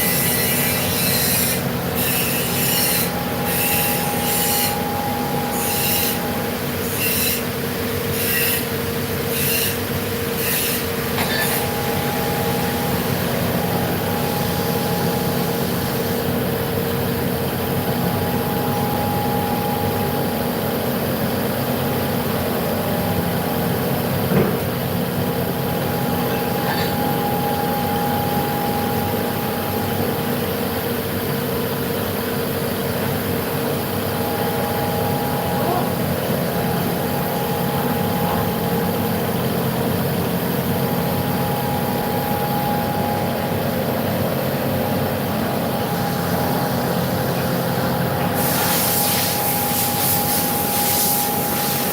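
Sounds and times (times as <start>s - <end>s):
machining centre whine: 0.0s - 51.9s.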